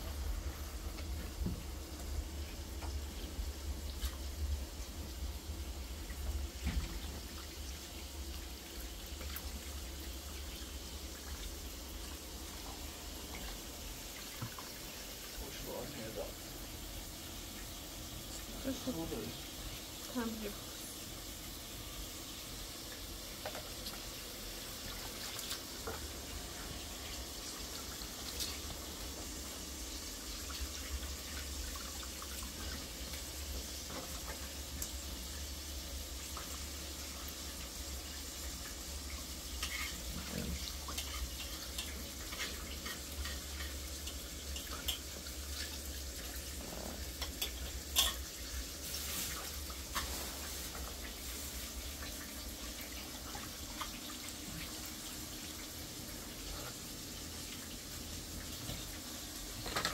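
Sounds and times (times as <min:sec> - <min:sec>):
water pouring and splashing: 0:00.0 - 0:59.9.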